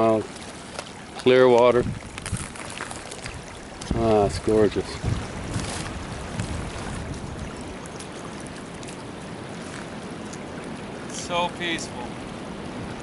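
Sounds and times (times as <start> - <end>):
small stream flowing: 0.0 - 13.0.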